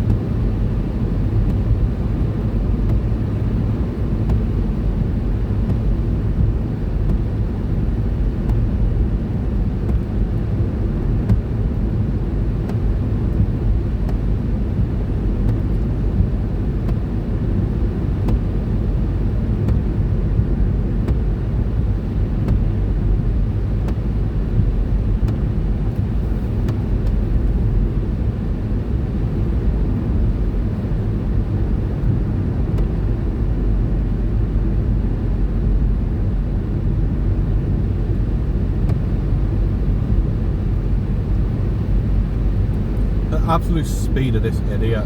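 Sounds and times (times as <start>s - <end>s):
car road rumble and engine drone: 0.0s - 45.0s.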